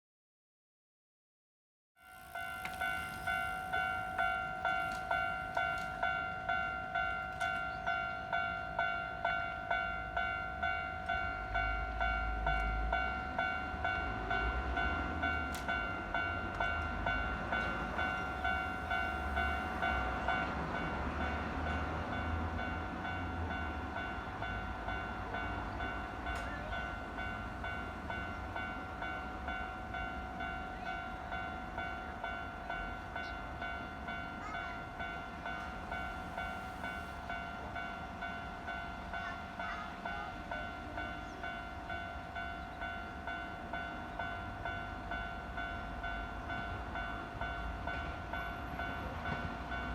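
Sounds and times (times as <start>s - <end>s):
train passing with low rumble: 2.0s - 49.9s.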